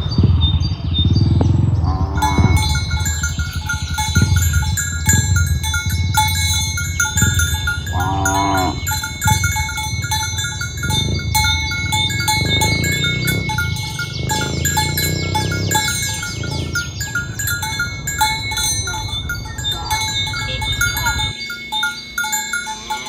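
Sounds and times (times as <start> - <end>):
low rumble: 0.0 - 22.7
metallic clinking tones: 0.0 - 23.0
cow mooing: 1.5 - 21.3.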